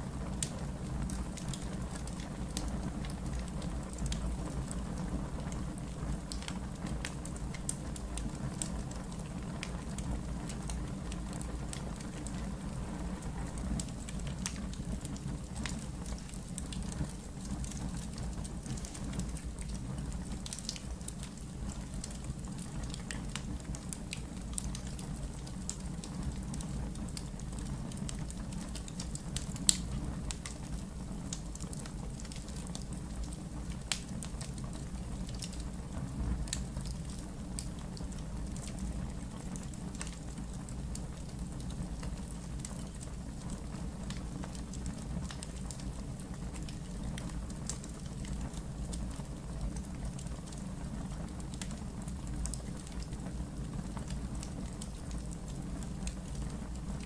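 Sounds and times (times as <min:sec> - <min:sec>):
fireplace logs crackling and popping: 0:00.0 - 0:57.0.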